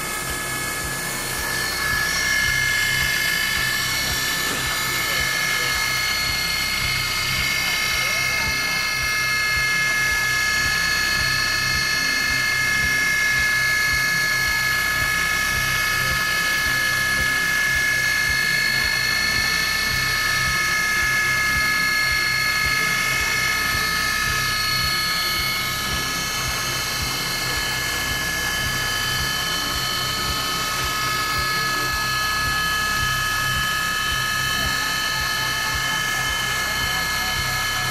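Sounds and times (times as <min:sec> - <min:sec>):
cutter engraving metal: 0:00.0 - 0:37.9
mill spindle high-pitched whine: 0:00.0 - 0:37.9.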